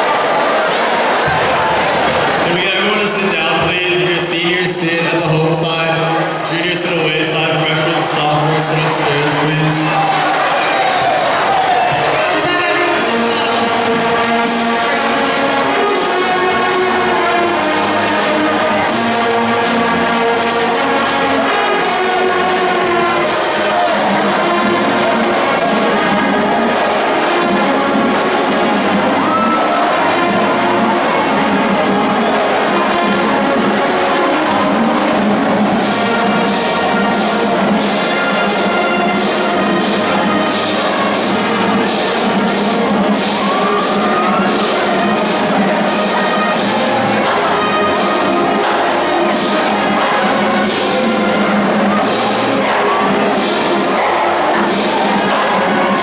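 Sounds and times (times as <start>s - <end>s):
marching drums: 1.1s - 56.0s
brass and woodwinds playing: 2.9s - 56.0s.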